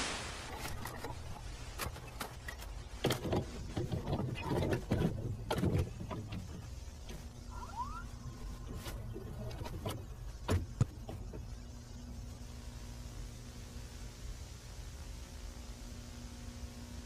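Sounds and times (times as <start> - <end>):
tape hum and hiss: 0.0 - 17.0.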